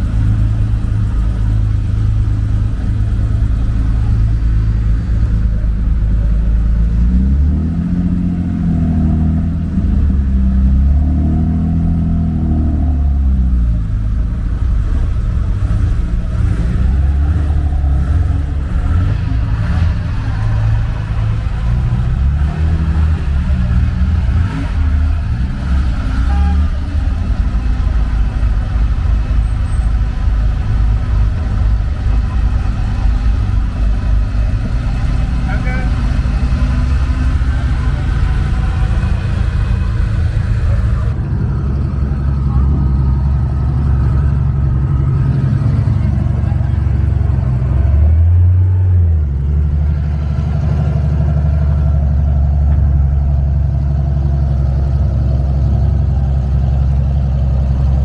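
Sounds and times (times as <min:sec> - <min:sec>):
car engines rumbling: 0:00.0 - 0:58.0
cars revving and pulling away: 0:00.0 - 0:58.0.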